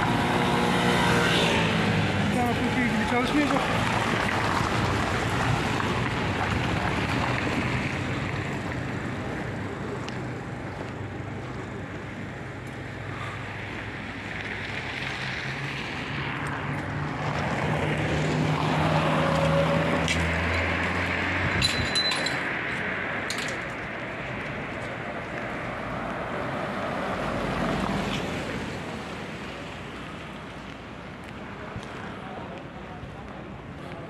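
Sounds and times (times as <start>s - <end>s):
passing car engines: 0.0s - 34.0s
steady street hum: 0.0s - 34.0s.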